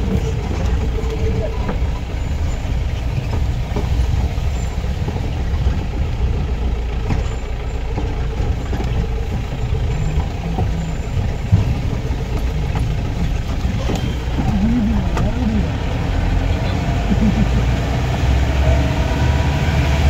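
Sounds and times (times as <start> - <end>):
jeep engine rumbling: 0.0 - 20.0.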